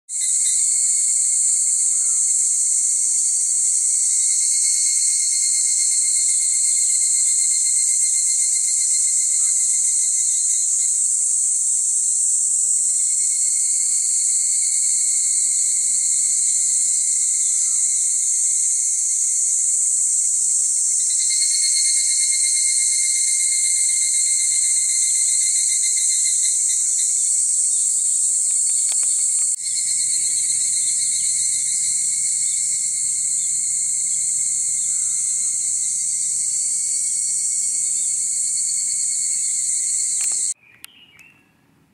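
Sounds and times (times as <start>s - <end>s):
cicadas ringing: 0.1s - 41.1s.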